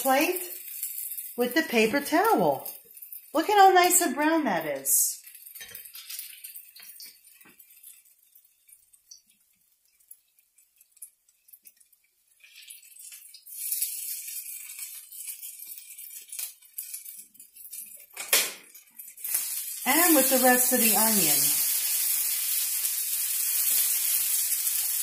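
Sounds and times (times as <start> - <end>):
hot oil sizzling in a frying pan: 0.0 - 25.0.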